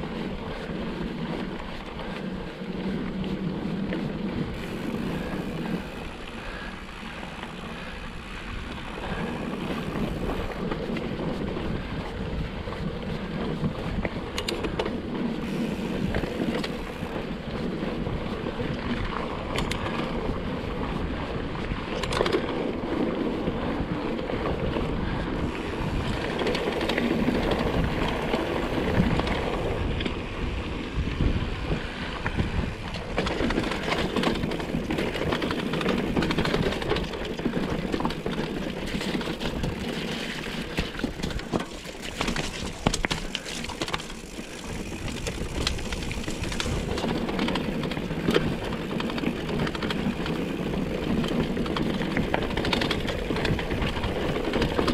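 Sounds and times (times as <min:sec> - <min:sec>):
bike rattling over rough ground: 0:00.0 - 0:54.9
tyre noise on trail: 0:00.0 - 0:54.9.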